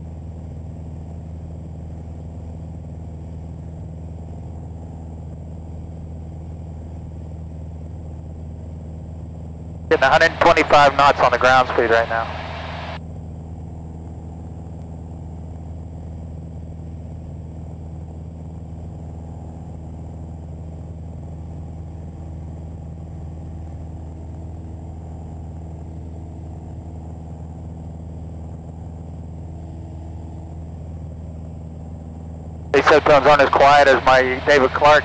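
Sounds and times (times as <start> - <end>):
aircraft engine and propeller drone: 0.0 - 35.0.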